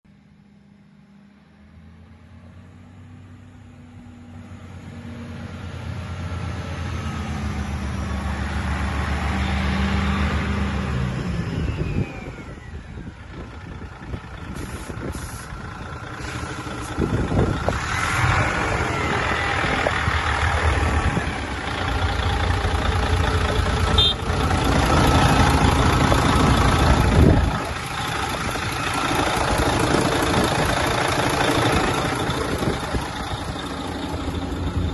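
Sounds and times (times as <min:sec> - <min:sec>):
diesel truck engine running: 0:00.3 - 0:34.9.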